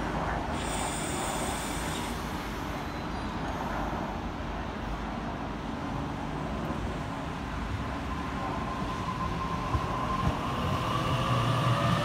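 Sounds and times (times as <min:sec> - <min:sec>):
electric train rumbling in: 0:00.0 - 0:12.0
road traffic noise: 0:00.0 - 0:12.0.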